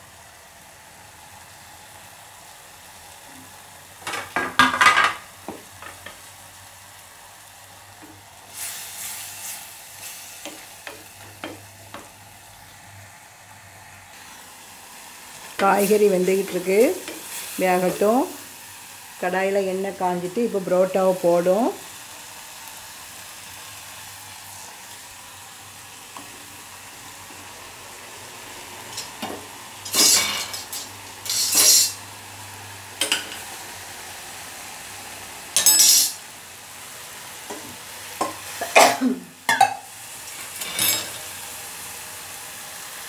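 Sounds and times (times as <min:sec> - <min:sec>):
bread deep-frying in oil: 0:00.0 - 0:43.0.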